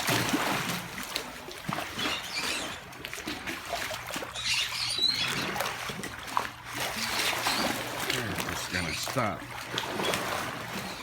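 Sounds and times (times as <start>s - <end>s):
pool water sloshing and slapping: 0.0s - 11.0s.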